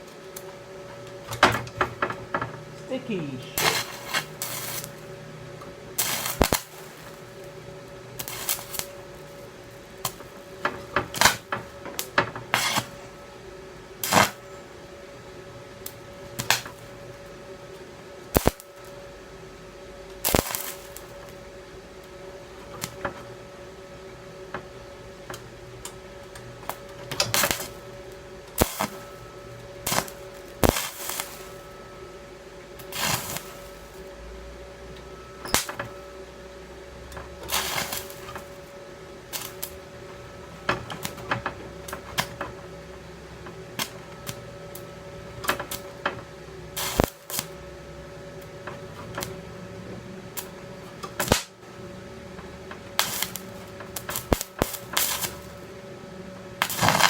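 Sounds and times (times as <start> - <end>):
arc welding crackling and popping: 0.0 - 57.0
steady hum: 0.0 - 57.0.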